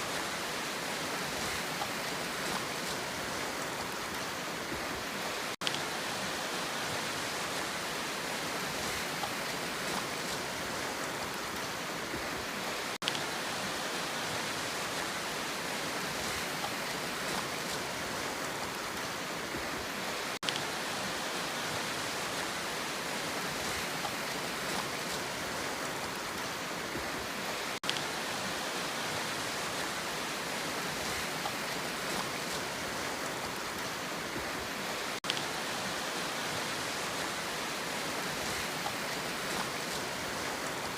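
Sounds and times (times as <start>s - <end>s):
steady rushing sea: 0.0s - 40.9s.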